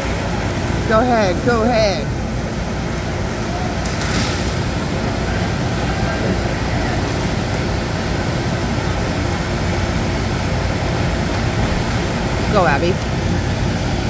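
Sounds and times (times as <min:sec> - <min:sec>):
indoor arena rumble: 0:00.0 - 0:14.0.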